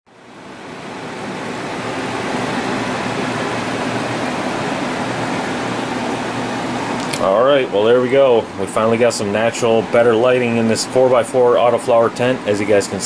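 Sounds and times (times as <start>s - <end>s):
fans rushing: 0.6s - 13.0s.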